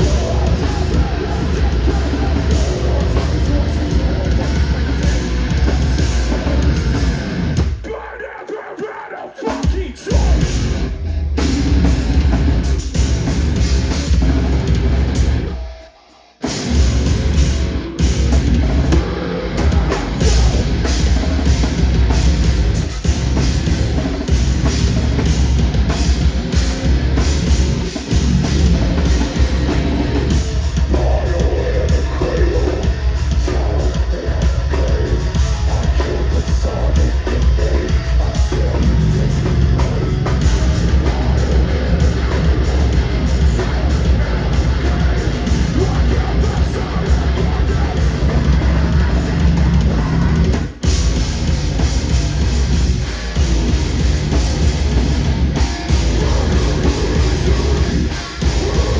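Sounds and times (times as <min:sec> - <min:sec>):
heavy rock band playing: 0:00.0 - 0:58.9.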